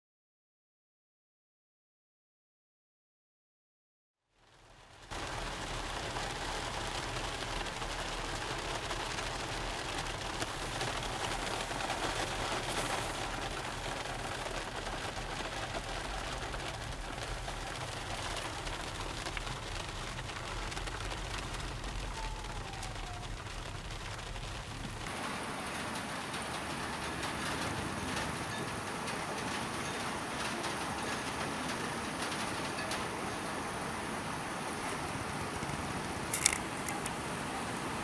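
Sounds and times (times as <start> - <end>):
rain on car windshield: 4.3 - 38.0
road rumble: 4.4 - 38.0.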